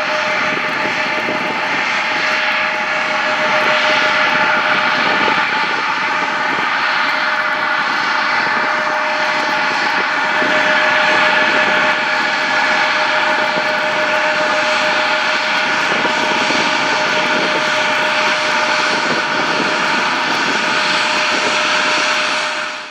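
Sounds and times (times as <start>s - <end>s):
jet engines running: 0.0s - 22.9s.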